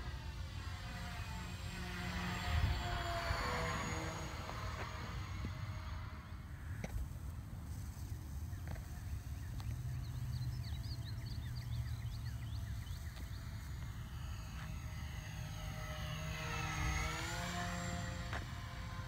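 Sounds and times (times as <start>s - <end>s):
low wind rumble: 0.0s - 19.0s
model plane propellers humming: 0.0s - 19.0s.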